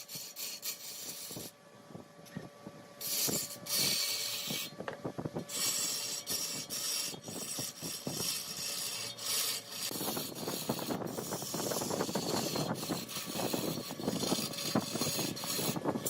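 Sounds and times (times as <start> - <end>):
lathe tool scraping wood: 0.0 - 1.6, 3.0 - 16.0.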